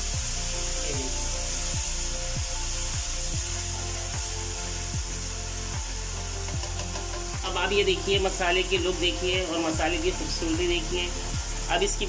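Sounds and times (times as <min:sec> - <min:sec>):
sizzle and hiss: 0:00.0 - 0:12.0.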